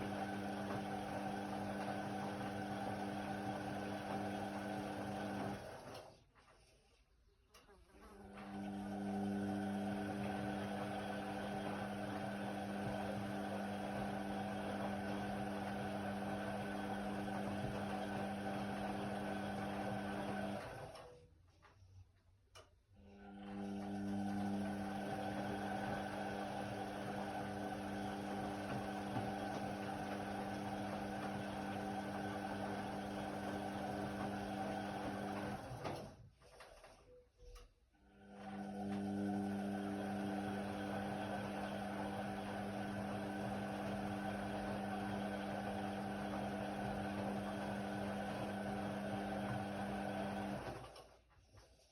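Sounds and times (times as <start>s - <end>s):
washing machine drum motor hum: 0.0s - 6.0s, 8.2s - 21.0s, 23.4s - 36.2s, 38.2s - 51.0s.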